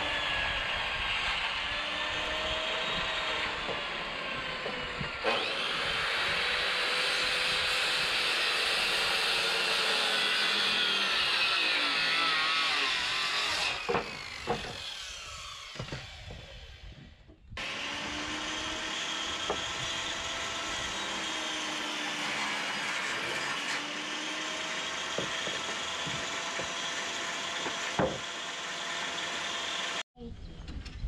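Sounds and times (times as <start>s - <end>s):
circular saw cutting wood: 0.0s - 30.0s.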